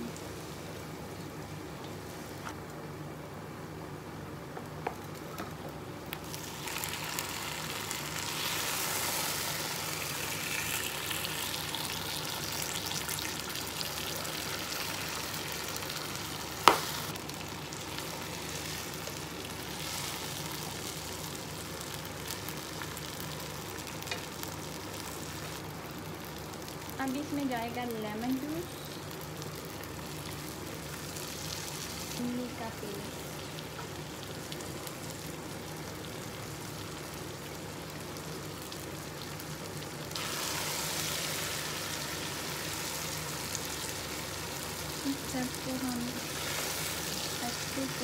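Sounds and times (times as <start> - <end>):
vegetables sizzling in hot oil: 6.1 - 48.0.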